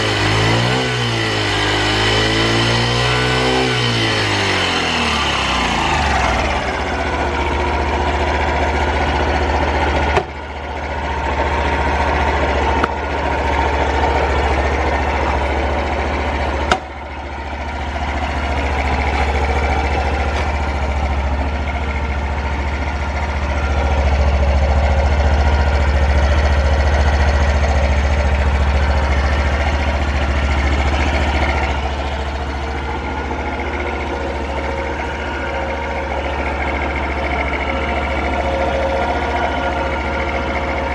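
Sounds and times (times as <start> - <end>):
small motorcycle engine idling: 0.0 - 40.9.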